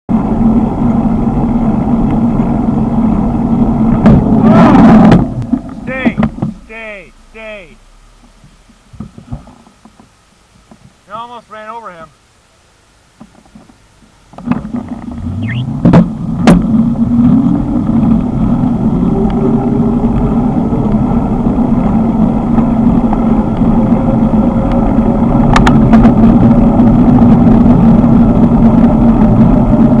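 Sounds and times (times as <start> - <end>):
wind and road noise: 0.1 - 30.0.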